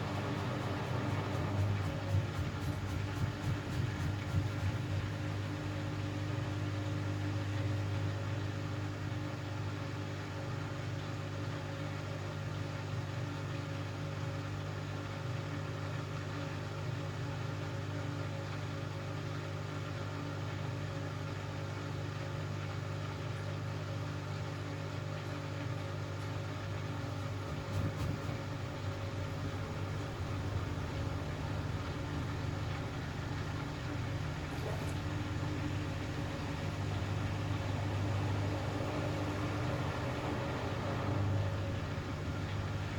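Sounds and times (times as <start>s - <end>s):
washing machine humming: 0.0s - 42.9s.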